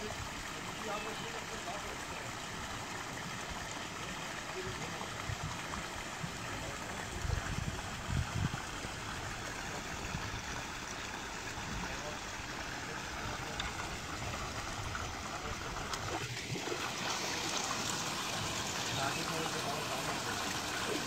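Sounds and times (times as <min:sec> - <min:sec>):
water splashing into pond: 0:00.0 - 0:21.0.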